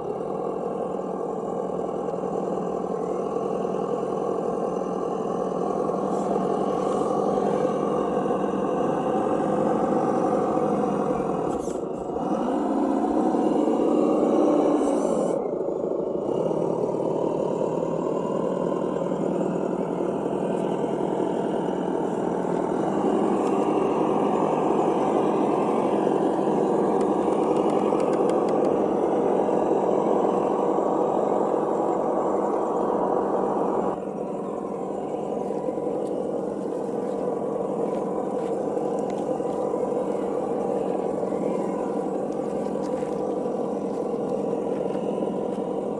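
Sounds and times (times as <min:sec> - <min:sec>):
simulated truck engine sound: 0:00.0 - 0:45.9.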